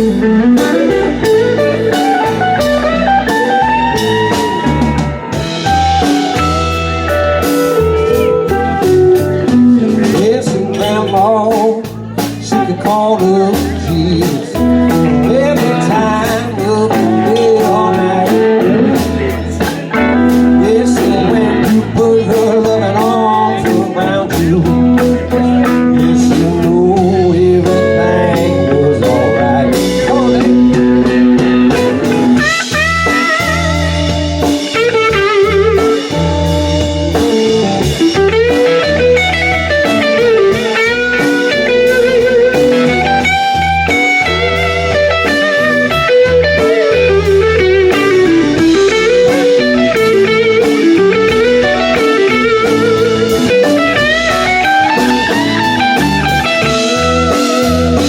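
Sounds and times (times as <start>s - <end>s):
bass: 0.0s - 58.0s
drum kit: 0.0s - 58.0s
electric guitar bending lead: 0.0s - 58.0s.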